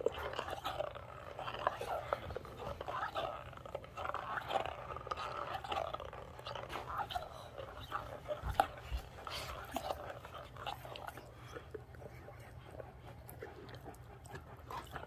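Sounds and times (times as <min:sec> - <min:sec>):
dog chewing and lip-smacking: 0:00.0 - 0:15.0.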